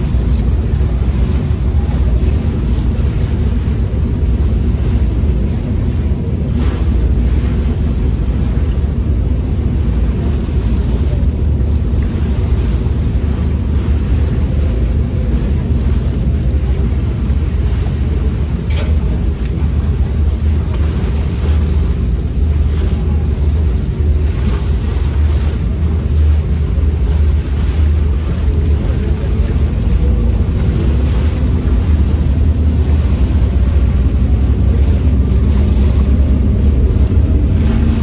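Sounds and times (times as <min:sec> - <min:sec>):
ferry low rumble: 0:00.0 - 0:38.0
wind buffeting microphone: 0:00.0 - 0:38.0.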